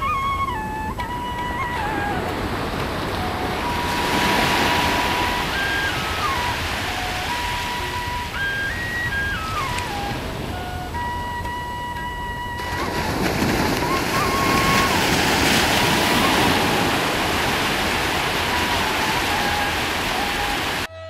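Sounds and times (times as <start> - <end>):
faint melody of held notes: 0.0 - 21.0
ocean surf breaking on beach: 1.4 - 11.2, 12.6 - 20.9.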